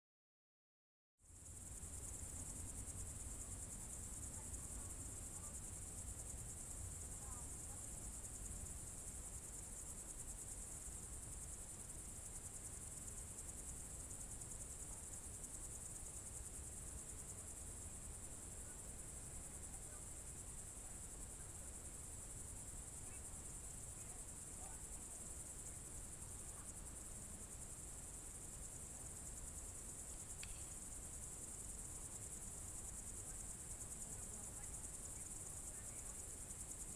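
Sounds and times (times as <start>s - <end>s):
crickets trilling: 1.3s - 36.9s.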